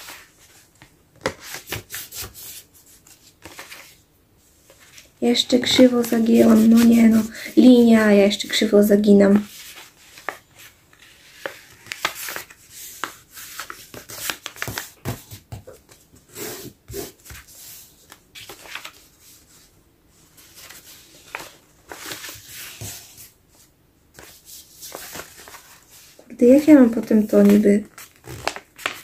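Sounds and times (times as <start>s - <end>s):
paper rustling and crinkling: 0.0s - 8.3s, 9.1s - 29.0s.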